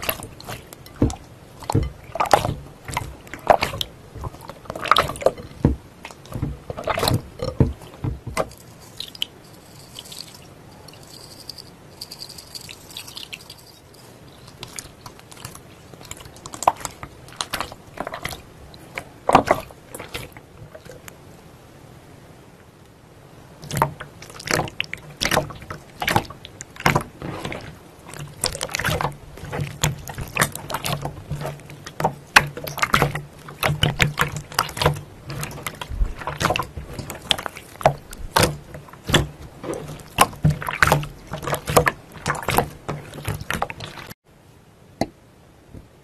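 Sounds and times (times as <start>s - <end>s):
slime squelching: 0.0s - 11.6s, 12.2s - 21.2s, 23.6s - 44.2s.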